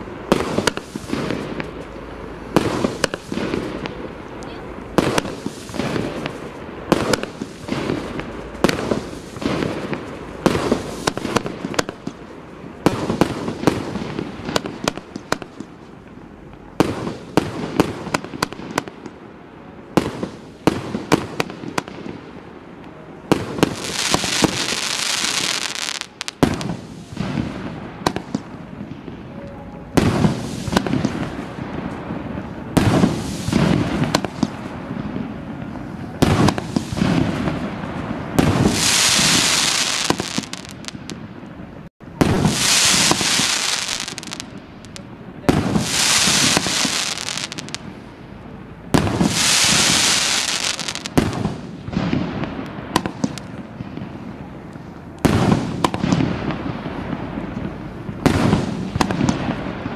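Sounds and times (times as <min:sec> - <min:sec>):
fireworks hiss: 0:00.0 - 0:15.9, 0:23.3 - 0:29.0, 0:29.9 - 0:41.3, 0:42.2 - 0:48.2, 0:48.9 - 0:59.9
fireworks bursting reports: 0:00.0 - 0:59.9.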